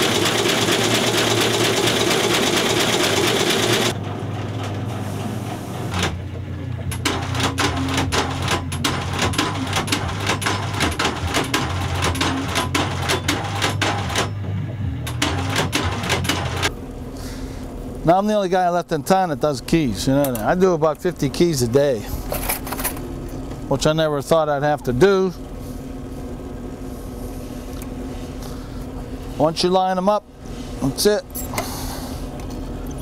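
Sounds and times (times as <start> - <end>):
motor hum: 0.0 - 18.2, 18.9 - 33.0.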